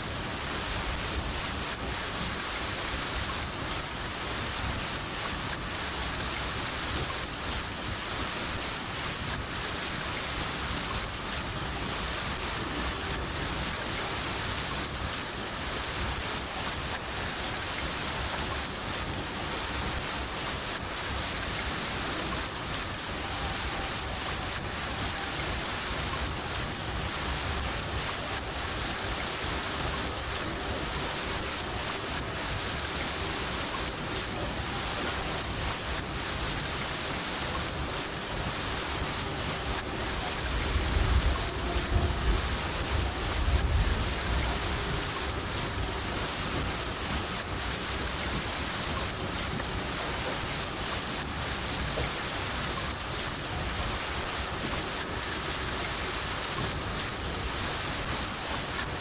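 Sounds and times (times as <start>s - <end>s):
crickets chirping: 0.0s - 59.0s
rain hiss: 0.0s - 59.0s.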